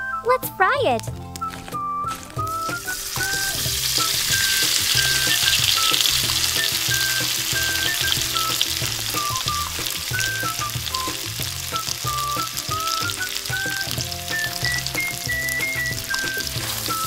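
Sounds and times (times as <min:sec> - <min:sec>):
food sizzling in hot oil: 0:02.4 - 0:17.0.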